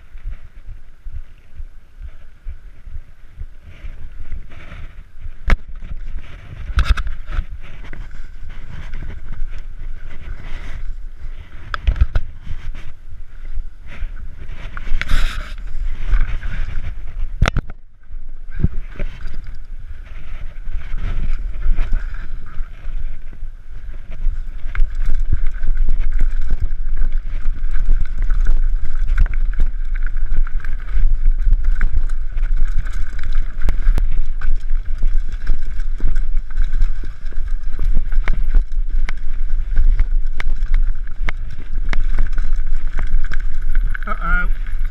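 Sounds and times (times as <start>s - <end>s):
mountain bike rattling over rocks: 0.0s - 44.9s
wind rumbling on microphone: 0.0s - 44.9s.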